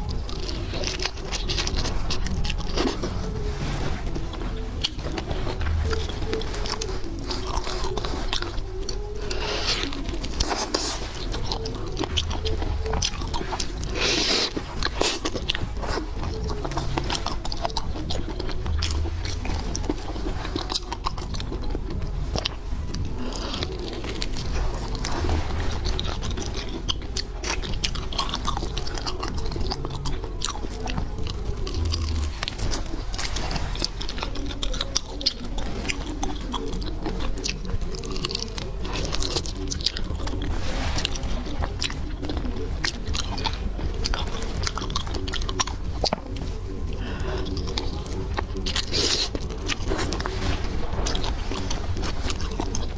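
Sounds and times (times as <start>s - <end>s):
chewing and crunching seafood: 0.0s - 52.9s.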